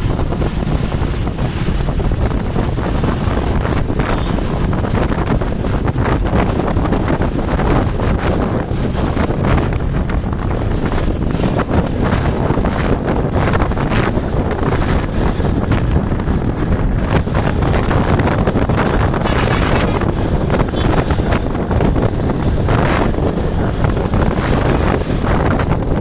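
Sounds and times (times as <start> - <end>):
motorcycle and road noise: 0.0 - 26.0
wind buffeting microphone: 0.0 - 26.0.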